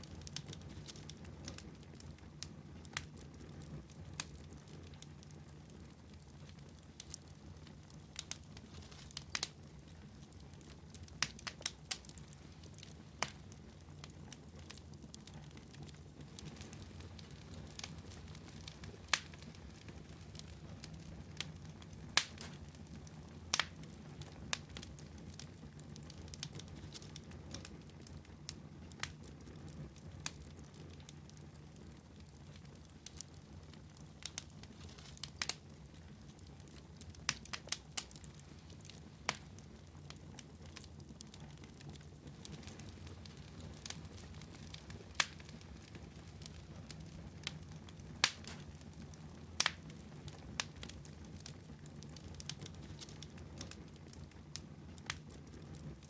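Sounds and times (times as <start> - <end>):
fire crackling and popping: 0.0 - 56.0
low rumble of fire: 0.0 - 56.0.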